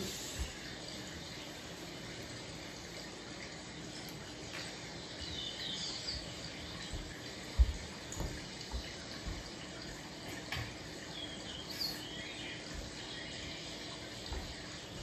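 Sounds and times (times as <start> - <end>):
air conditioner airflow hiss: 0.0 - 15.0.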